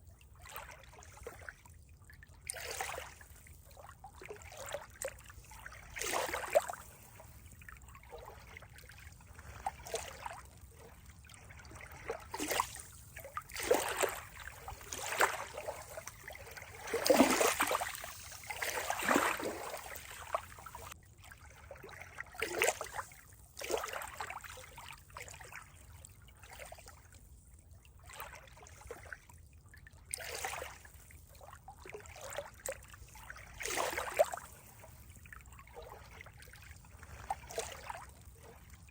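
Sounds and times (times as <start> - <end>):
water trickling and gurgling: 0.0 - 38.9.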